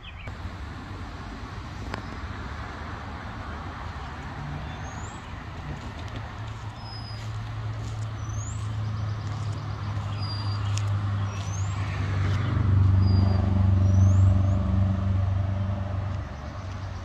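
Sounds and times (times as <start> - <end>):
vehicle engine droning: 0.2 - 17.0.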